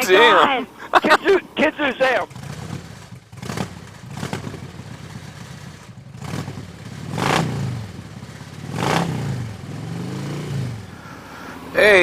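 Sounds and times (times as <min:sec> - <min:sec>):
motorcycle engine running: 0:02.1 - 0:12.0.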